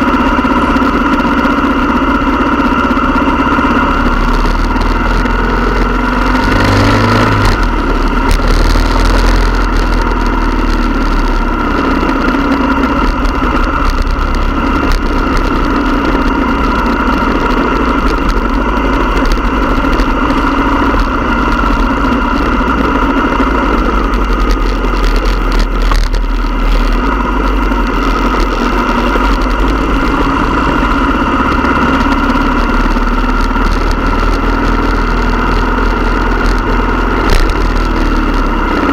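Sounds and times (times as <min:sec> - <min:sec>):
motorcycle engines droning: 0:00.0 - 0:38.9.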